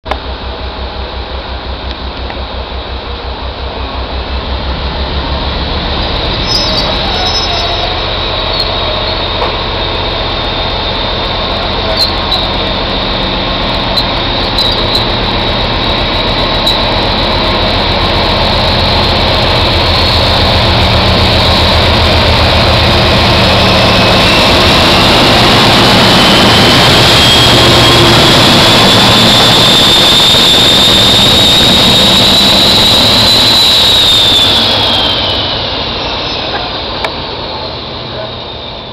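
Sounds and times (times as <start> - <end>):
diesel locomotive under full power: 0.0 - 38.9
whine rising in pitch: 4.3 - 38.9.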